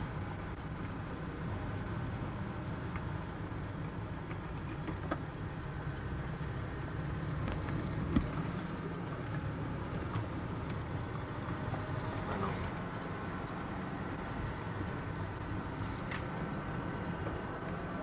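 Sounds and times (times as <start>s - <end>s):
vehicle rumble from inside: 0.0s - 18.0s.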